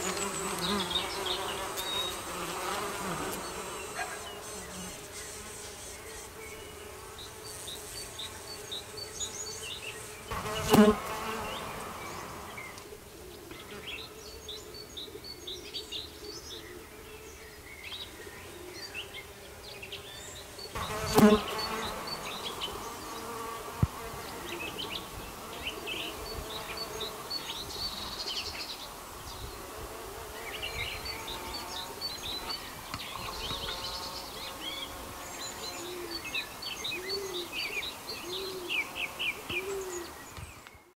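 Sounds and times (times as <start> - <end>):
bees buzzing: 0.0 - 13.1, 19.0 - 40.4
birds chirping: 0.0 - 40.9.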